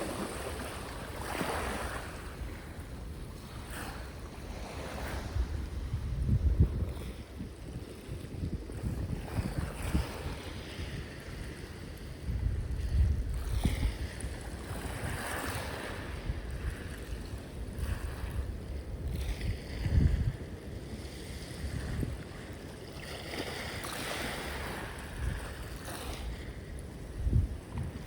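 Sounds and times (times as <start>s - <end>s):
sea waves washing onto shore: 0.0s - 12.4s, 13.3s - 28.0s
wind buffeting microphone: 0.0s - 28.0s.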